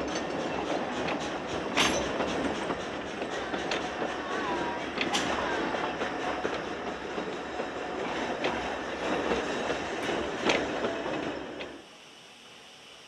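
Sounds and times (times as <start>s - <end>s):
wheels clicking over rail joints: 0.0s - 11.8s
train wheels rumbling on track: 0.0s - 11.9s.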